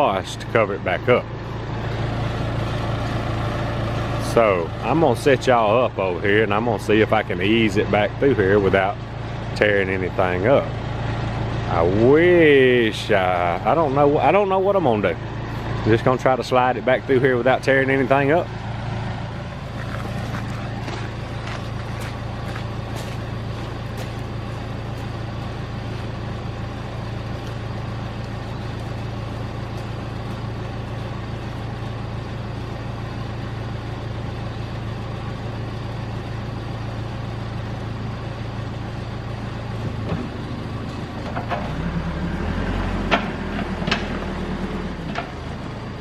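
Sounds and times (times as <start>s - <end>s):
backhoe diesel engine running: 0.0s - 46.0s.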